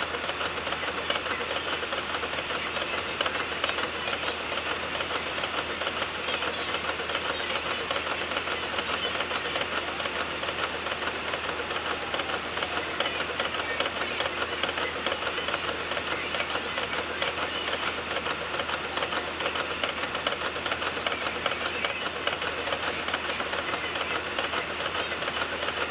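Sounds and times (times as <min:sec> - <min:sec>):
dvd drive read head clicking: 0:00.0 - 0:25.9
whir of spinning disc: 0:00.0 - 0:25.9.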